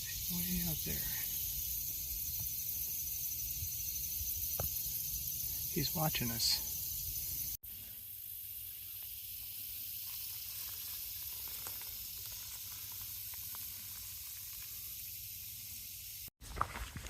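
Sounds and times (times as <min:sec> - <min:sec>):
insect chorus hissing: 0:00.0 - 0:16.3.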